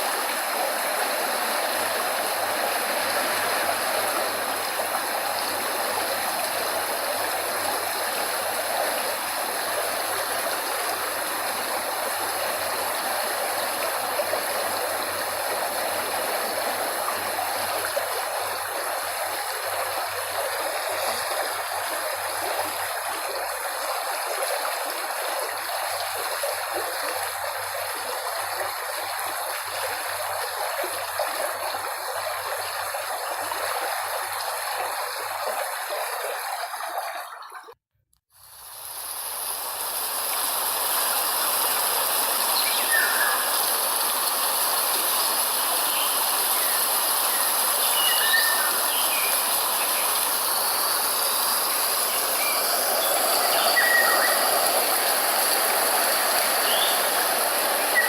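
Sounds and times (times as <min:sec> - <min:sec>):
stream water rushing: 0:00.0 - 0:37.6, 0:38.7 - 0:58.0.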